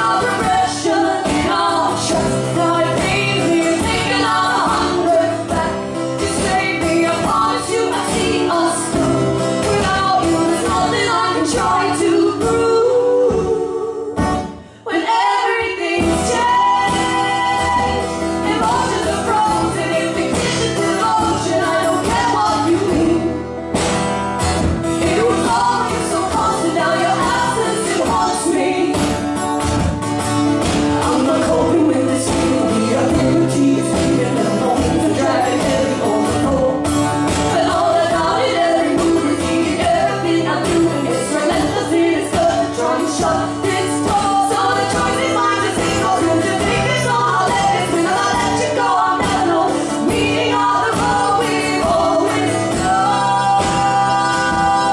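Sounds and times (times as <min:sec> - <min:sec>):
women singing: 0:00.0 - 0:23.6, 0:24.5 - 0:29.6, 0:30.6 - 0:54.9
strummed acoustic guitars: 0:00.0 - 0:54.9.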